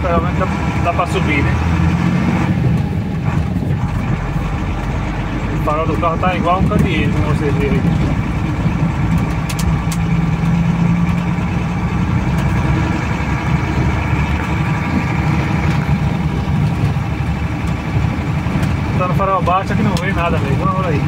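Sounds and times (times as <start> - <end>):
truck engine under load: 0.0 - 21.0
knocks and rattles in cab: 2.5 - 21.0.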